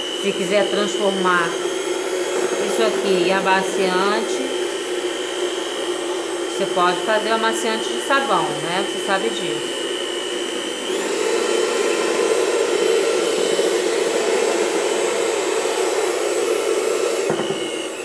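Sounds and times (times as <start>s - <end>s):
electric hand mixer churning liquid: 0.0s - 18.0s.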